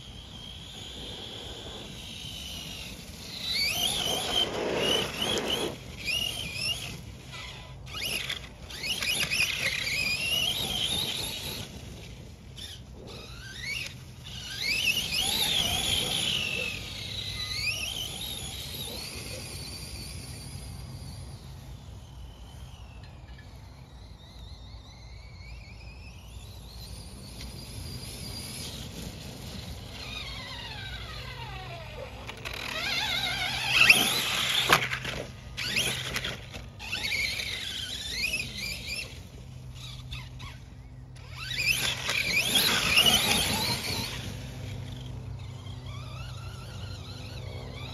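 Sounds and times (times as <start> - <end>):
electric rc truck motor whining: 0.0 - 47.9.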